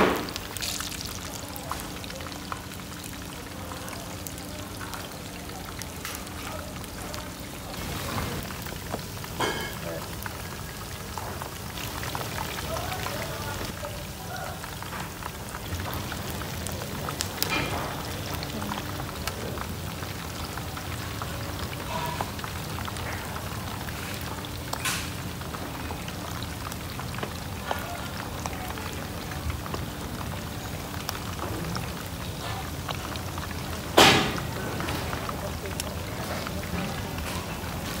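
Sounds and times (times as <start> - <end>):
oil sizzling and crackling in wok: 0.0 - 38.0.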